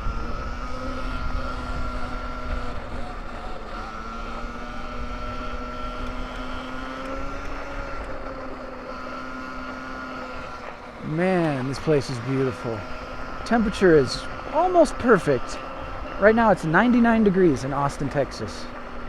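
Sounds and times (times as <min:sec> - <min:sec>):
electric dirt bike motor whining: 0:00.0 - 0:19.0.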